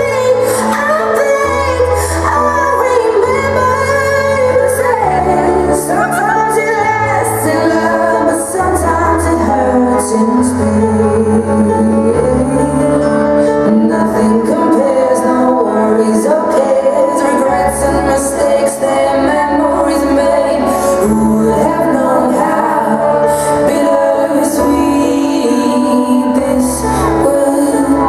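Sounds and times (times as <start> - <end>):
pop song over loudspeakers: 0.0 - 28.0.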